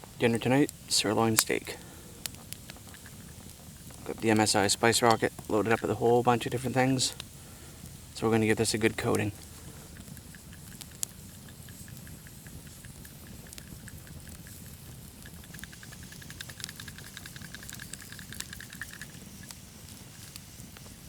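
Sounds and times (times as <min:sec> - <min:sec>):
seasoning pattering onto steak: 0:00.0 - 0:21.0.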